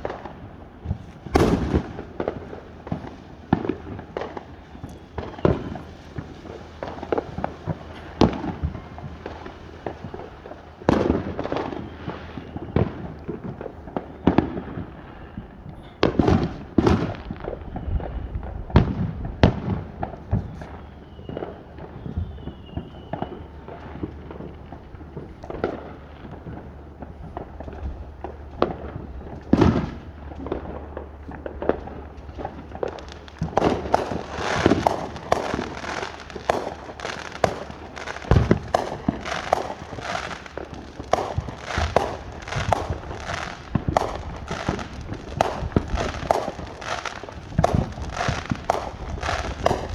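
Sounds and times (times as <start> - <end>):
rapid crackling pops: 0.0 - 15.5, 22.8 - 49.9
fireworks bangs: 0.0 - 49.9.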